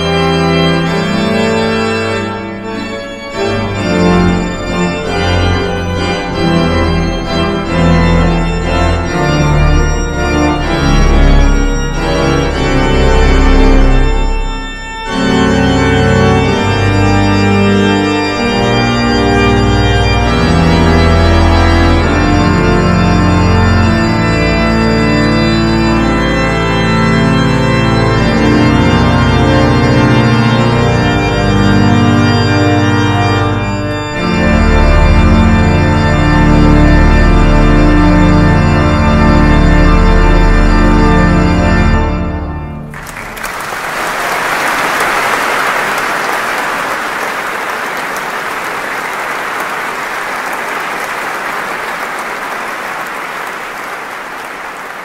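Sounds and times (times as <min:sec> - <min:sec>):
pipe organ chords: 0:00.0 - 0:55.0.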